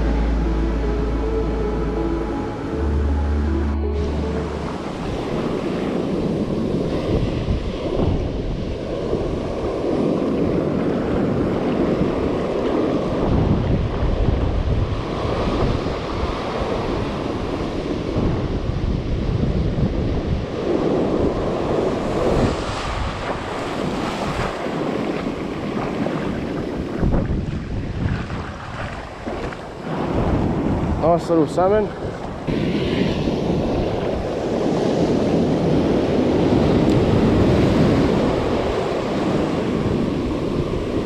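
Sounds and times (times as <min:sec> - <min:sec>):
ocean surf on beach: 0:00.0 - 0:41.0
wind buffeting microphone: 0:04.0 - 0:41.0.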